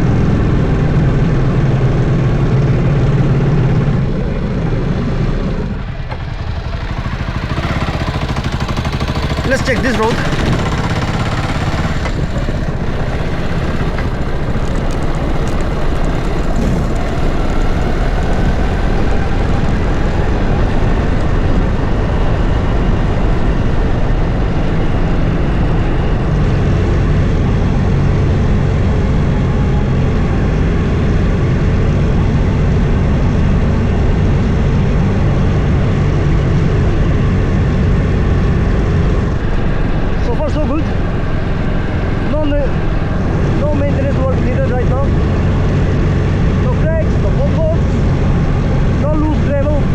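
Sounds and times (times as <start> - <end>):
road noise: 0.0 - 49.9
vehicle engine hum: 0.0 - 49.9.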